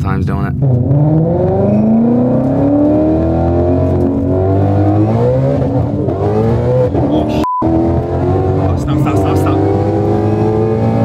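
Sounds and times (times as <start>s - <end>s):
car engine accelerating hard: 0.6s - 11.0s.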